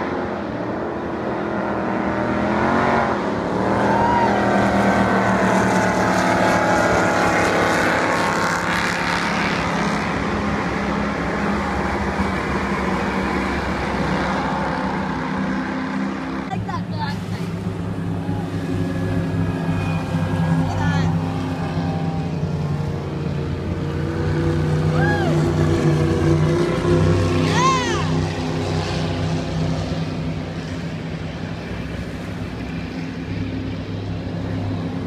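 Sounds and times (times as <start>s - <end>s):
powerboat engines at full throttle: 0.0s - 35.0s.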